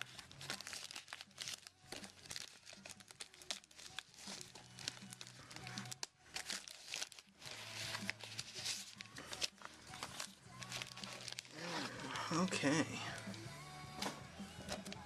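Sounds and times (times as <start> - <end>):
packing material crinkling and tearing: 0.0 - 13.4.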